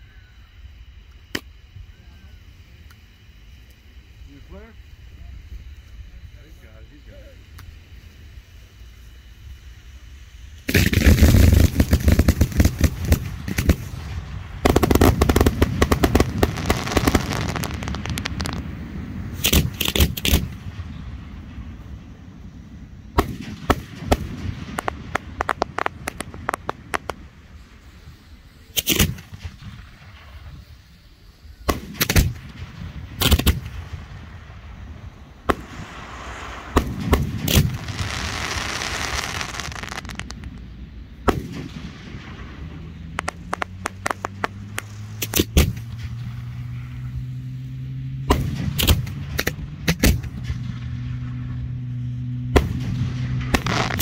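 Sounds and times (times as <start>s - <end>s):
low engine drone: 0.0s - 54.0s
fireworks hissing crackle: 2.2s - 54.0s
fireworks bangs: 10.6s - 54.0s.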